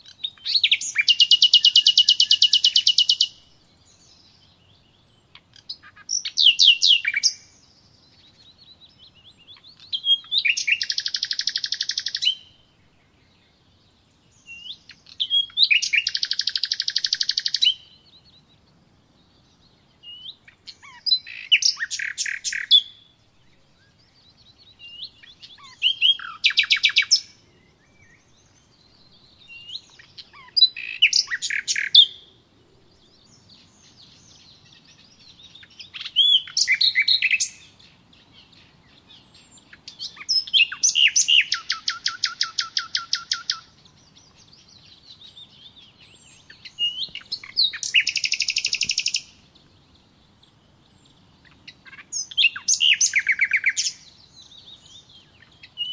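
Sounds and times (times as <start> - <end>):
songbird trilling: 0.0 - 12.6, 14.3 - 18.5, 20.0 - 23.1, 23.8 - 32.3, 33.1 - 55.9.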